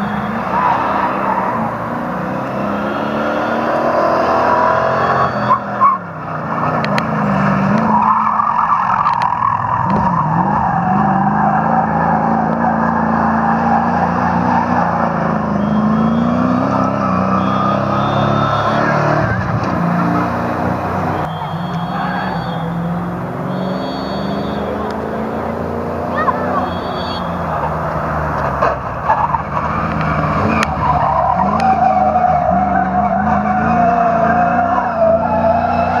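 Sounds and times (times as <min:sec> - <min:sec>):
truck engine revving: 0:00.0 - 0:36.0
tyres skidding: 0:00.0 - 0:36.0.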